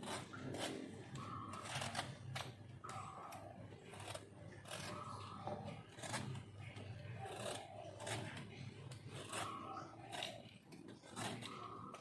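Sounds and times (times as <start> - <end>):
knife scraping mango flesh: 0.0 - 12.0.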